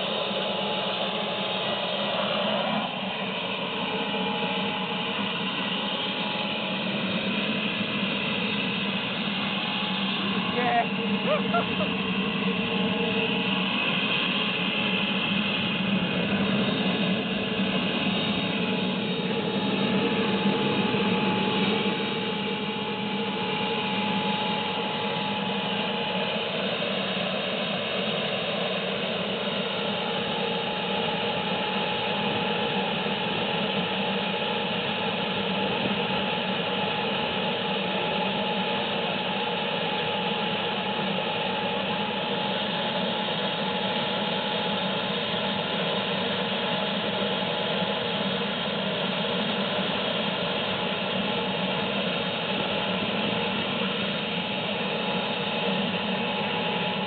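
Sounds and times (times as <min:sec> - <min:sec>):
jet engine whining: 0:00.0 - 0:57.0.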